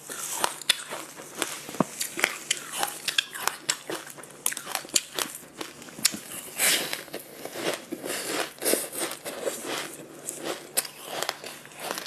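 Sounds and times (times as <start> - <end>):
crunchy food being chewed: 0.0 - 12.0.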